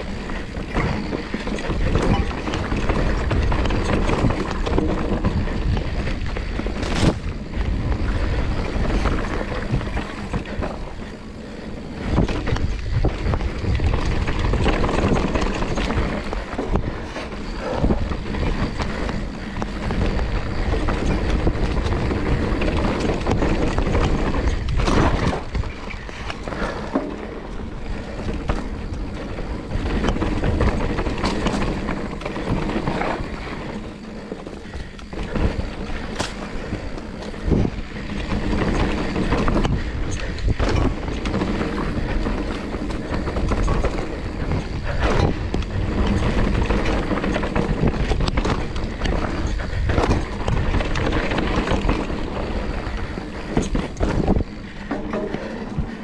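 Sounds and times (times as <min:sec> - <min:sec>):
bike rattling: 0:00.0 - 0:56.0
tyres rolling on dirt: 0:00.0 - 0:56.0
wind buffeting microphone: 0:00.0 - 0:56.0.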